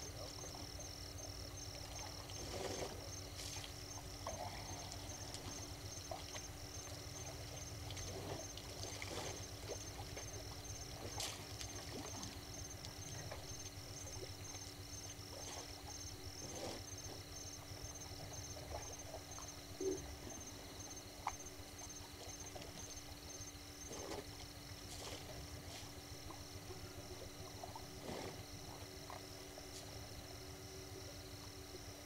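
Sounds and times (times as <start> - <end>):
water trickling and splashing: 0.0 - 30.5.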